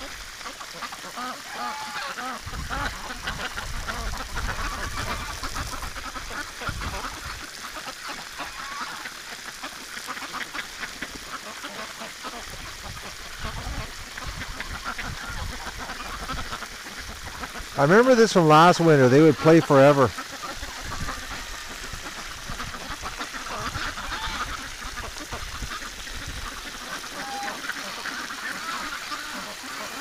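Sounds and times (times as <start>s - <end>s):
ducks quacking: 0.0s - 30.0s
hose water hissing: 0.0s - 30.0s.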